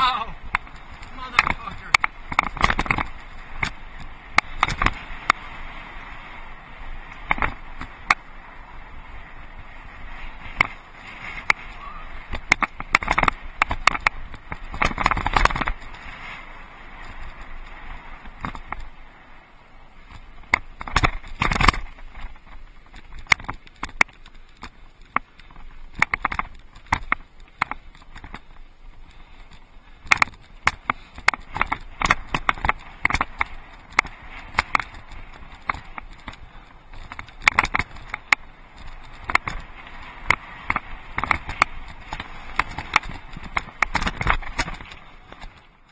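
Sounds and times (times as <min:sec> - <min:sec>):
bike knocking and rattling: 0:00.0 - 0:05.6, 0:06.9 - 0:08.4, 0:09.9 - 0:16.1, 0:17.0 - 0:19.0, 0:20.0 - 0:45.9
bike tyres crunching on gravel: 0:00.0 - 0:45.9.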